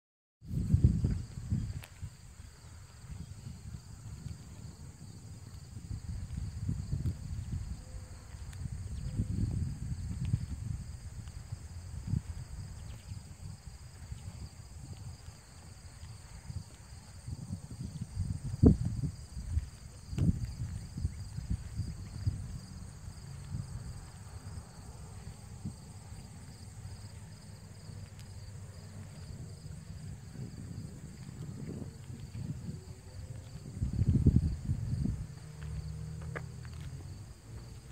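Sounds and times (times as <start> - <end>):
wind buffeting microphone: 0.4 - 37.9
low rumble with soft thumps: 0.6 - 37.8
insects trilling: 1.0 - 37.9.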